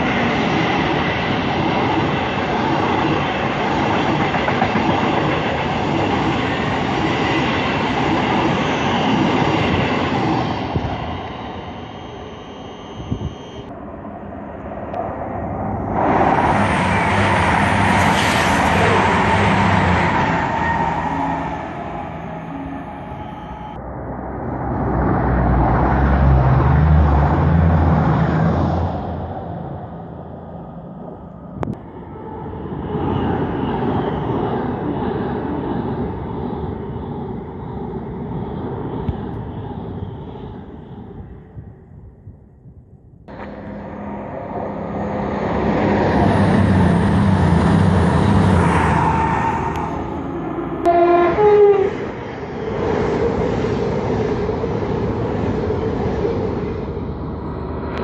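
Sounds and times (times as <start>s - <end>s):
diesel train passing at speed: 0.0s - 58.0s.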